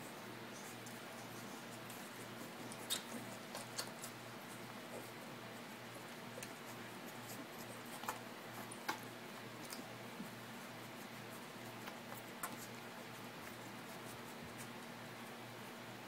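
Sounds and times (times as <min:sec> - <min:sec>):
puppies suckling clicks: 0:00.7 - 0:05.2, 0:05.9 - 0:15.0.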